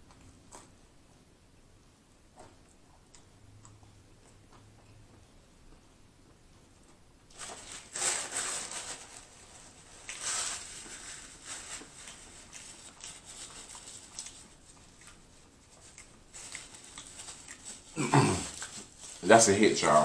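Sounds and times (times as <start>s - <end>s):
crunchy chewing: 0.0s - 1.2s, 2.3s - 19.3s.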